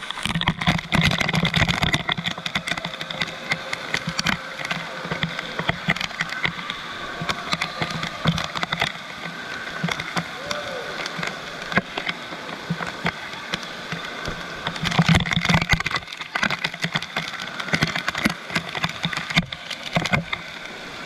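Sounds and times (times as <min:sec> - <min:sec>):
rushing water roar: 0:00.0 - 0:21.0
water splashes and knocks: 0:00.0 - 0:21.0.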